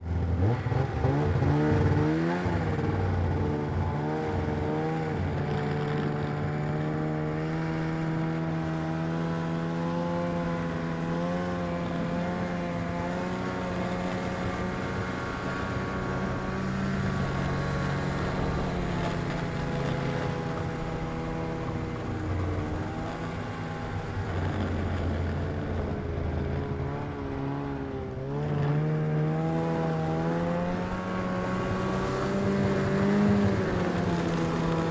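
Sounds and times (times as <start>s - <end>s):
snowmobile engine running: 0.0s - 34.9s.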